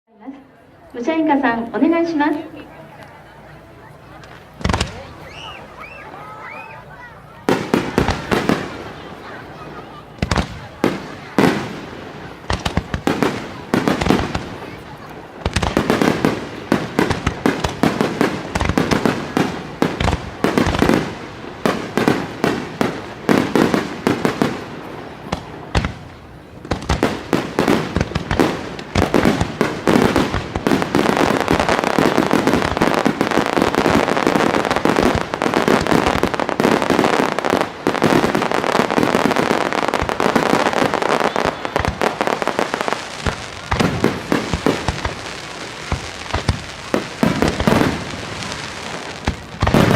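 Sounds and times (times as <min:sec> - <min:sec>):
fireworks crackling: 0:00.5 - 0:49.9
firework bangs: 0:01.2 - 0:49.9.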